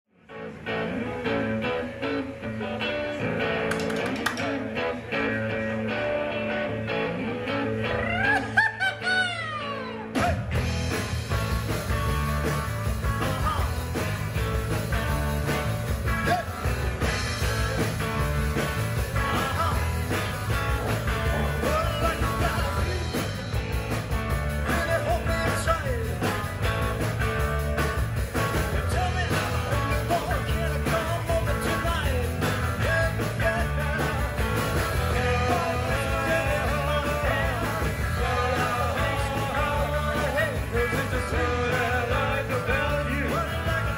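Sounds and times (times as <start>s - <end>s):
live rock band playing: 0.2s - 43.9s.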